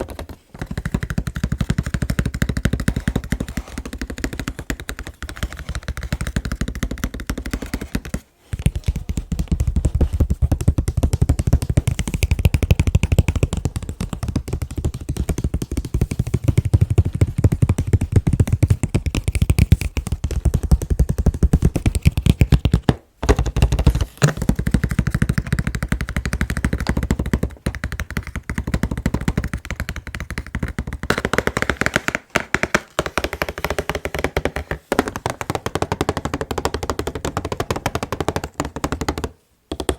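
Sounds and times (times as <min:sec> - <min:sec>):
fast tapping on cardboard box: 0:00.0 - 0:39.9.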